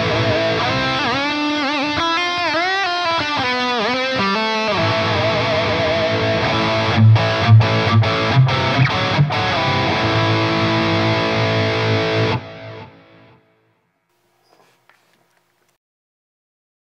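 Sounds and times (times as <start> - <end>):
distorted electric guitar: 0.0 - 13.7.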